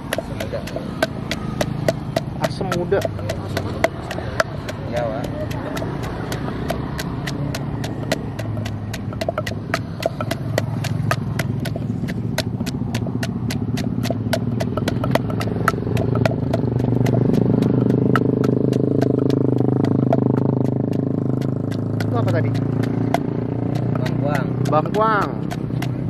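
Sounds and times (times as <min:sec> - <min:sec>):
engine hum: 0:00.0 - 0:26.0
wooden pestle pounding in mortar: 0:00.0 - 0:26.0.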